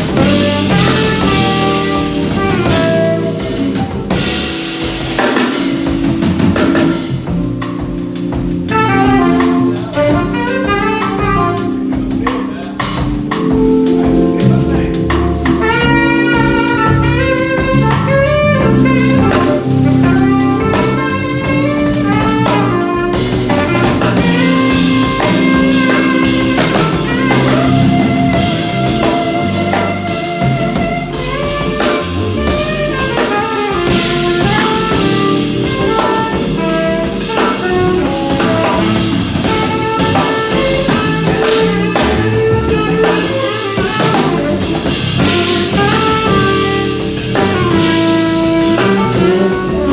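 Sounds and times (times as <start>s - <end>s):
live band playing: 0.0s - 49.9s.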